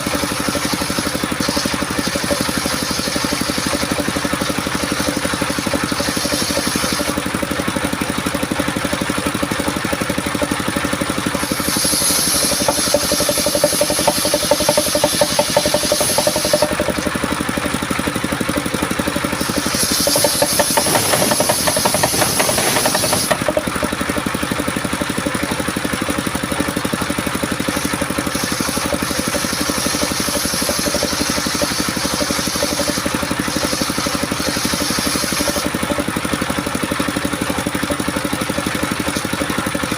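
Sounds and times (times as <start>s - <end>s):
saw blade cutting wood: 0.0s - 25.5s, 26.5s - 39.9s
sawmill engine running: 0.0s - 39.9s.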